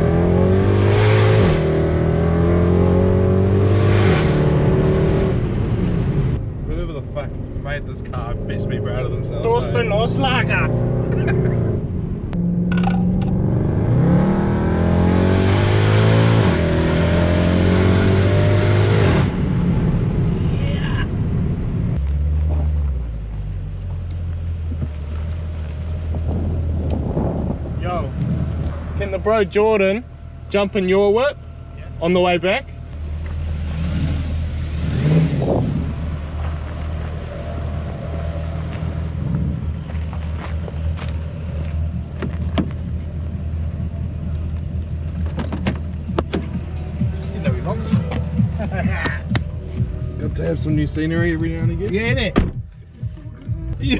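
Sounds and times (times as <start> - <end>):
car engine accelerating hard: 0.0 - 20.5, 21.1 - 53.9.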